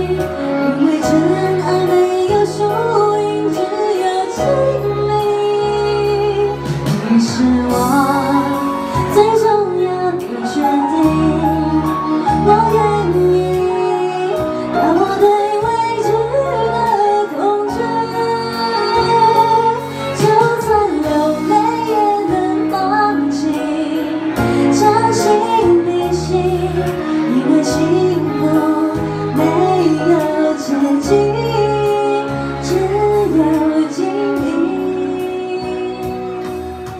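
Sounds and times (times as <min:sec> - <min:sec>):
keyboard: 0:00.0 - 0:36.9
violin: 0:00.0 - 0:36.9
woman singing pop ballad: 0:00.0 - 0:36.9.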